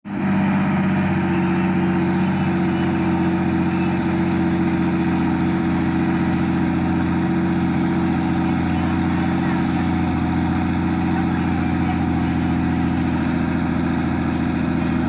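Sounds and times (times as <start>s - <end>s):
helicopter engine and rotor drone: 0.1s - 15.0s.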